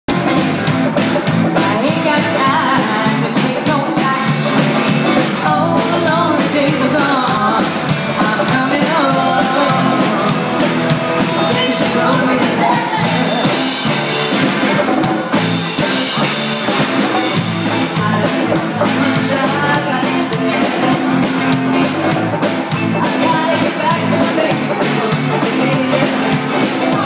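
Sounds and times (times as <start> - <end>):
rock and roll song with vocals: 0.1 - 27.0.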